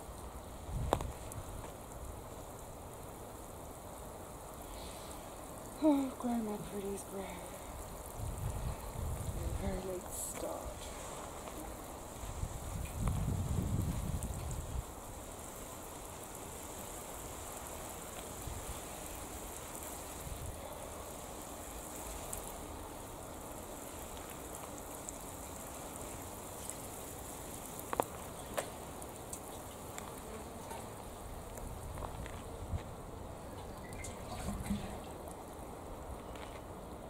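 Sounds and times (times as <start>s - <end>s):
water sprinkling onto leaves: 0.0s - 37.0s.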